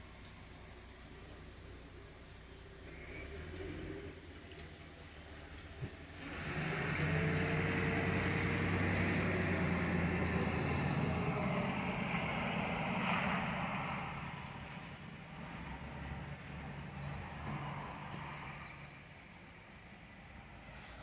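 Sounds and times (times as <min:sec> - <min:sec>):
car engine hum: 0:00.0 - 0:20.7
tyres hissing on wet pavement: 0:00.0 - 0:21.0.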